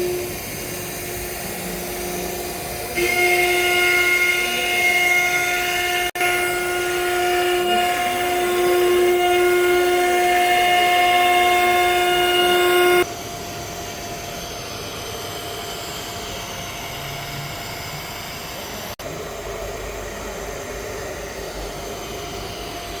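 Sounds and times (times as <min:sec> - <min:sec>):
router spindle whining: 0:00.0 - 0:19.4.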